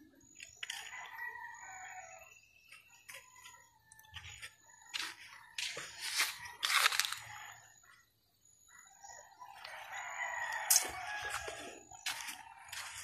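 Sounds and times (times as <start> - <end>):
distant rooster crowing: 0.5 - 13.0.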